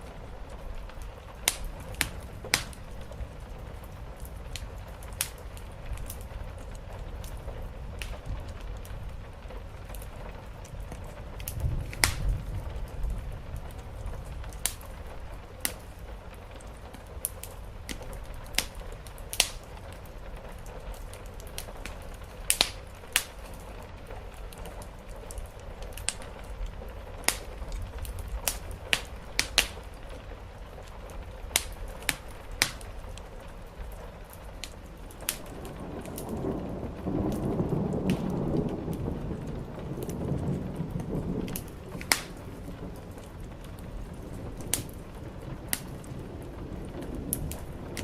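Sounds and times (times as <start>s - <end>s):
distant thunder rumble: 0.0s - 48.0s
steady rain: 0.0s - 48.0s
wood fire crackling and popping: 0.0s - 48.0s.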